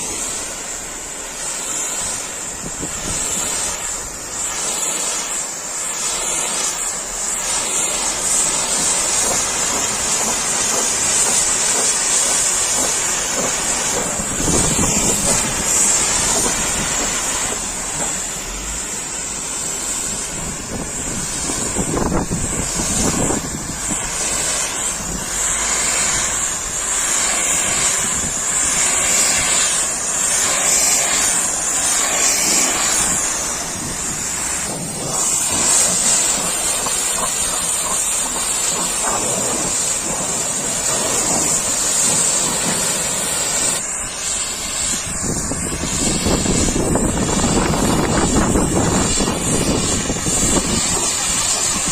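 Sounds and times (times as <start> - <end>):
pressure washer spraying water: 0.0 - 51.9.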